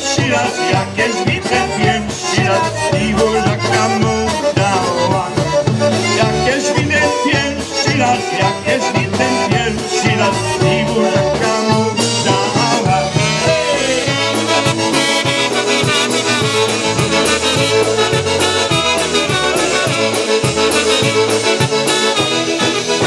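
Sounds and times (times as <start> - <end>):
accordion: 0.0 - 23.0
live polka band playing: 0.0 - 23.0
saxophone: 0.0 - 23.0
trumpet: 0.0 - 23.0.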